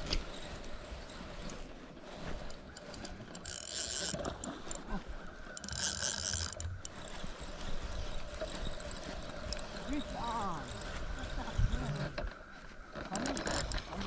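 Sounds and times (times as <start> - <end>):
fishing reel whirring and clicking: 0.0 - 14.0.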